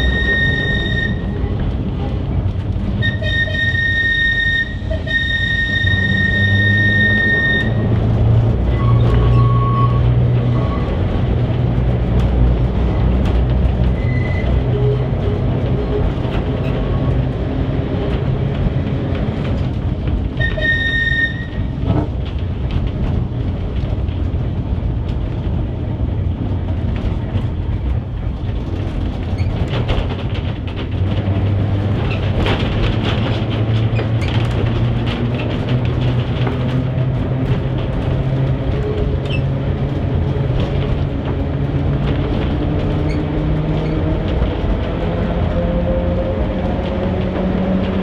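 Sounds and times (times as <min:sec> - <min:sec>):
tram wheels rumbling on rail: 0:00.0 - 0:48.0.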